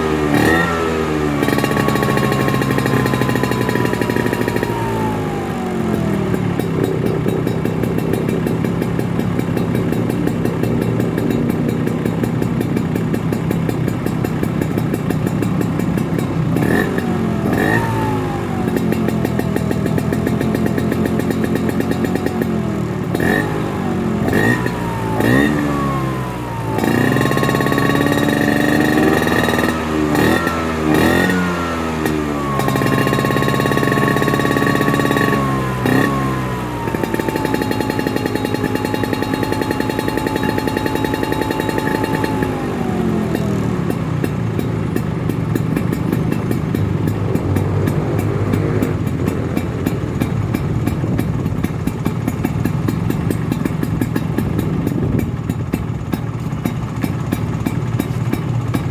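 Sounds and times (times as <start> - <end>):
scooter engine revving: 0.0 - 58.9.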